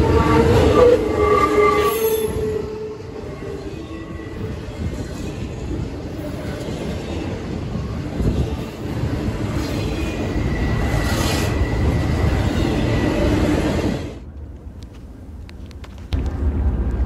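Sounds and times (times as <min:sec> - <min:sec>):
freight train rumbling and rattling: 0:00.0 - 0:17.0.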